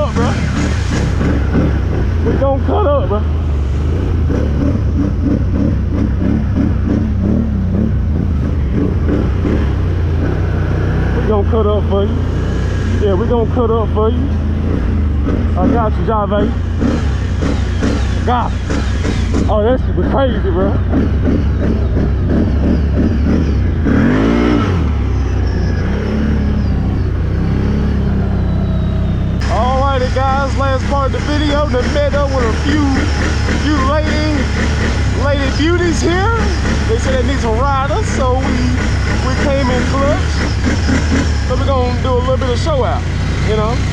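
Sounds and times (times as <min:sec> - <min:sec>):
engine rumbling: 0:00.0 - 0:43.9.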